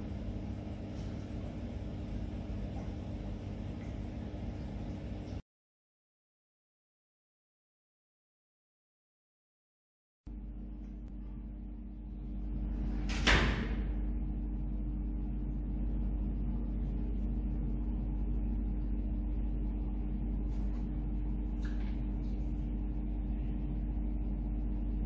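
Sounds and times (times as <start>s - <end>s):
aquarium equipment motor hum: 0.0s - 5.4s, 10.3s - 25.0s.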